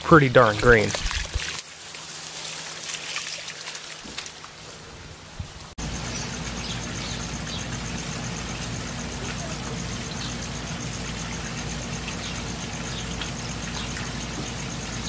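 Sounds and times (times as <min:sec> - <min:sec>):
wastewater splashing from hose: 0:00.0 - 0:15.0.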